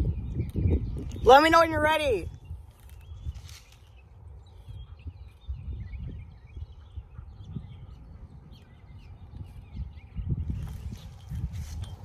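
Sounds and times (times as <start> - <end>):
faint birds chirping: 0.0 - 12.0
wind rumble on microphone: 0.0 - 12.0.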